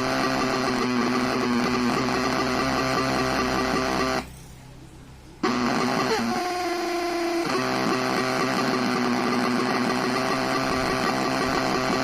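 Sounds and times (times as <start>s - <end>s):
loud buzzy television hum: 0.0s - 12.0s.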